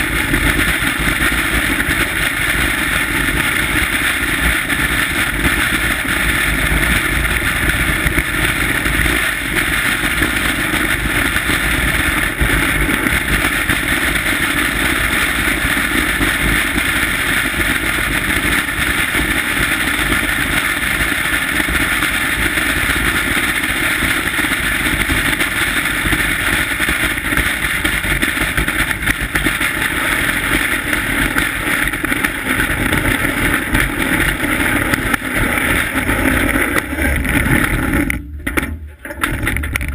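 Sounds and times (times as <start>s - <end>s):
bobsleigh runners rushing on ice: 0.0s - 39.9s
wind: 0.0s - 39.9s.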